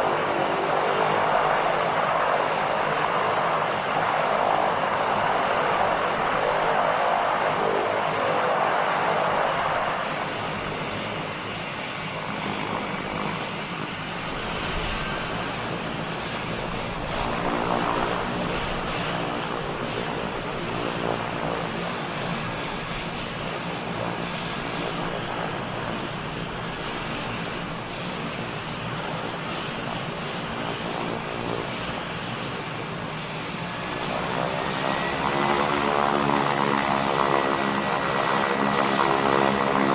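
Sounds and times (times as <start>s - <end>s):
propeller airplane engine: 0.0s - 39.9s.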